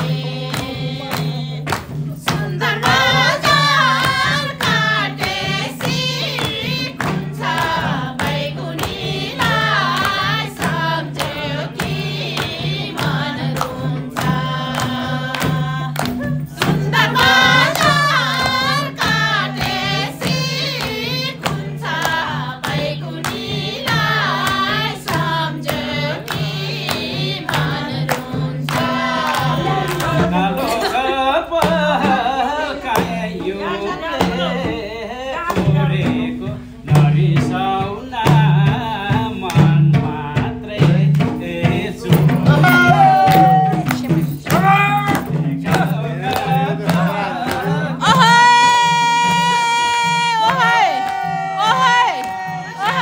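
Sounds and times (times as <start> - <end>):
group singing folk song: 0.0 - 53.0
steady beat: 0.0 - 53.0.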